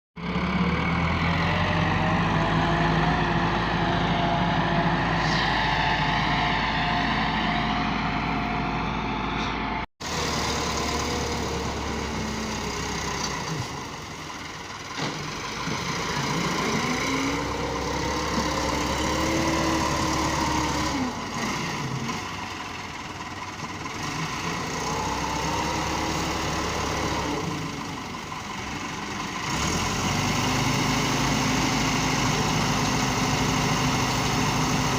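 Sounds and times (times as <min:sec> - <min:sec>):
tractor diesel engine revving: 0:00.2 - 0:34.9.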